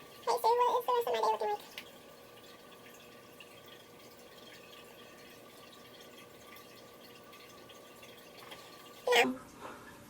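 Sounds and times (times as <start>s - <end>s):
thin steady hum: 0.0s - 10.0s.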